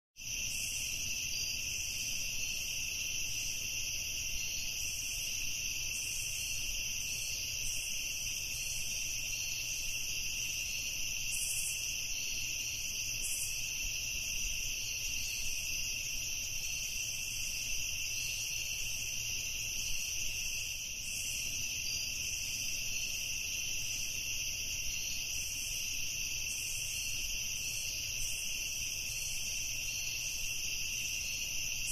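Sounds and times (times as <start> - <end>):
night insects droning: 0.2 - 31.9.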